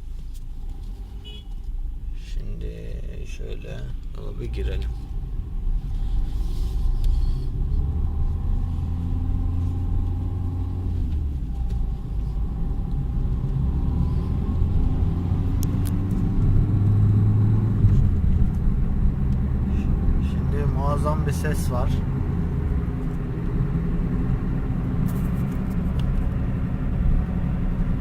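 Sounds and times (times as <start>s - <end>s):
car driving on road: 0.0s - 28.0s.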